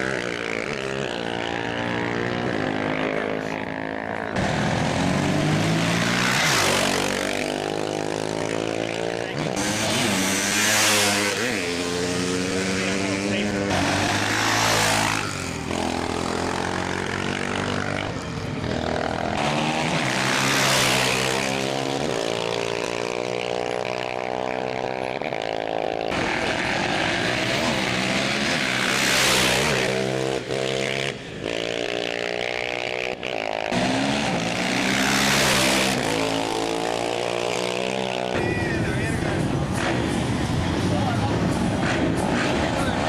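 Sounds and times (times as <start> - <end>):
motorcycles passing at speed: 0.0 - 43.0.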